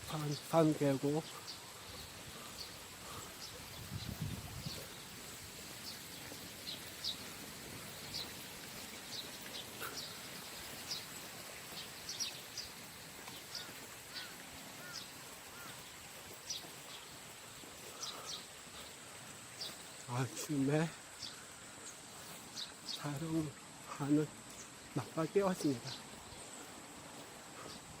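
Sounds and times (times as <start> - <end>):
birds chirping: 0.0 - 28.0
faint steady hiss: 0.0 - 28.0
lower arched bird calls: 0.0 - 28.0.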